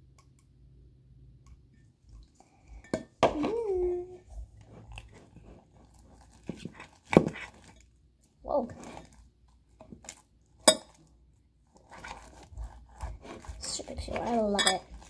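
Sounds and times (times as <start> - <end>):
spoon stirring slime: 1.4 - 15.0.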